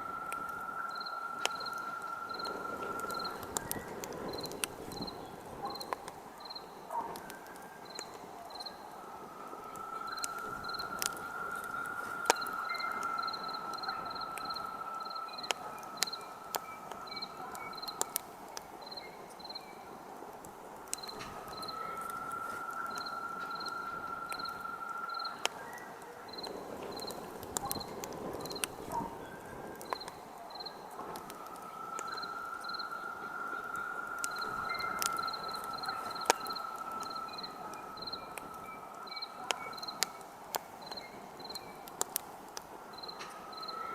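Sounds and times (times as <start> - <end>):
cricket chirping: 0.0 - 20.0, 20.9 - 42.1, 42.8 - 43.9
thin steady whistle: 0.0 - 20.0, 20.9 - 41.9
campfire crackling and popping: 0.0 - 43.9.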